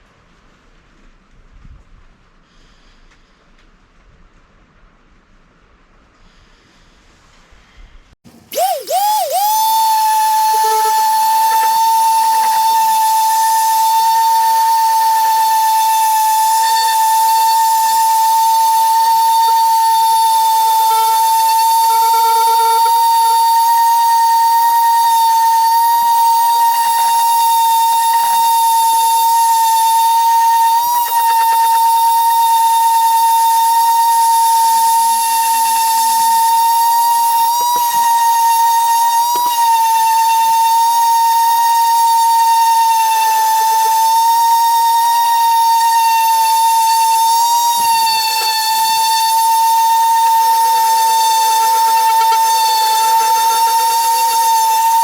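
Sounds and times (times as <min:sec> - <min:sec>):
small electric motor whining: 0:08.3 - 0:55.0.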